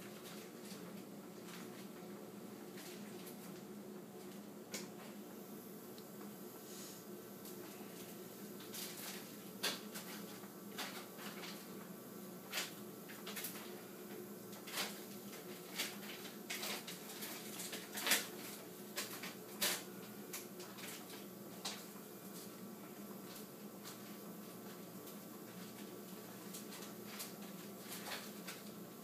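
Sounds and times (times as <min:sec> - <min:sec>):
hum of medical equipment: 0:00.0 - 0:29.0.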